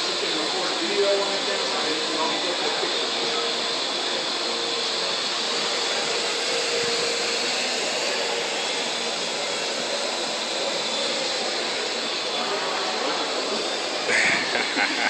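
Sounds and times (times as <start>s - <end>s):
quadcopter rotors whirring: 0.0s - 15.0s.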